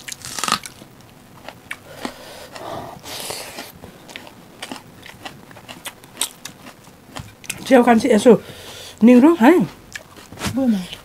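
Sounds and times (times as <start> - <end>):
people chewing and biting: 0.0 - 7.7, 9.6 - 11.0.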